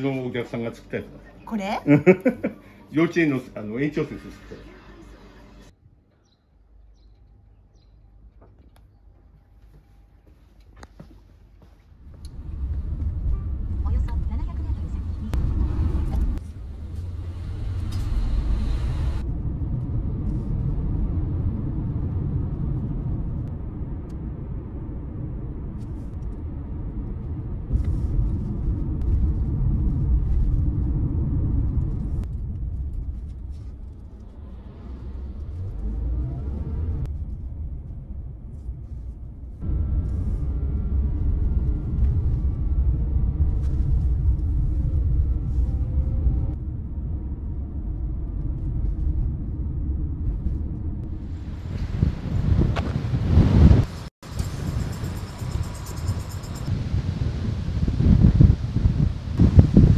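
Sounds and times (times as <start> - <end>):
car road and engine rumble: 11.9 - 59.9.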